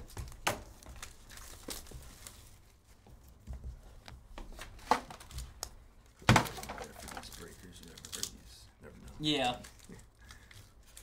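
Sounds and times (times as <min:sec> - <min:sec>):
cardboard and wrapper rustling: 0:00.0 - 0:11.0.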